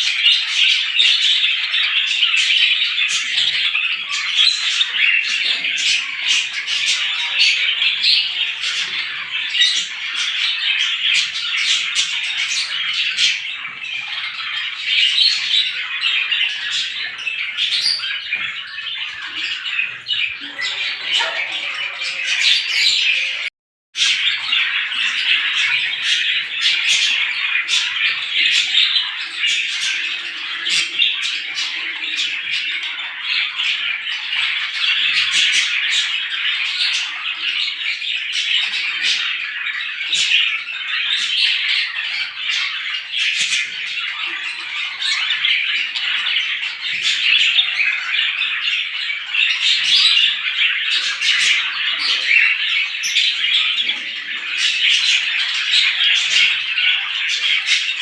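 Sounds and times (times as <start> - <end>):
sparrows chirping in chorus: 0.0 - 58.0.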